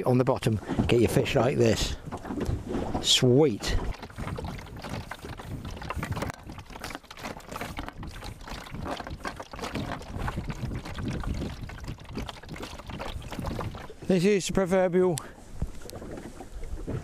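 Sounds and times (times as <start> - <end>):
wind buffeting microphone: 0.0 - 14.6
water lapping against boat: 0.0 - 17.0.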